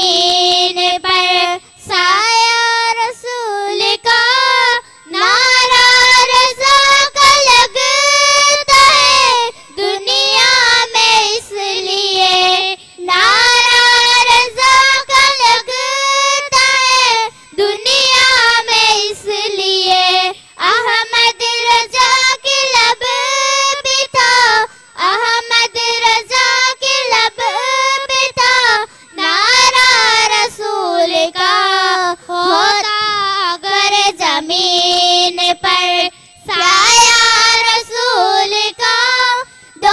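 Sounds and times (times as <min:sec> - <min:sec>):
girls singing unaccompanied: 0:00.0 - 0:39.9.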